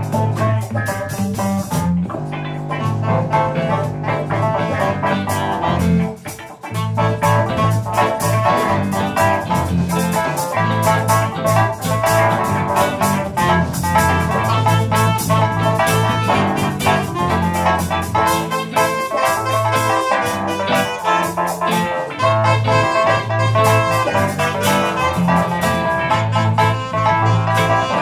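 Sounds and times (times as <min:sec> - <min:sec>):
bass line: 0:00.0 - 0:28.0
steady drum beat: 0:00.0 - 0:28.0.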